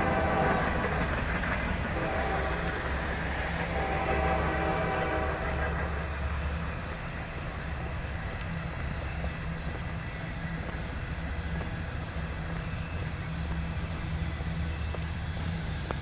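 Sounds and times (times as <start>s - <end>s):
distant diesel locomotives rumbling: 0.0s - 16.0s.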